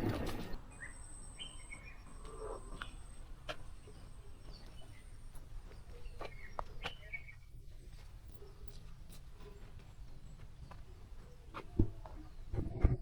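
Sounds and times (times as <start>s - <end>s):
bird chirps: 0.0s - 12.9s.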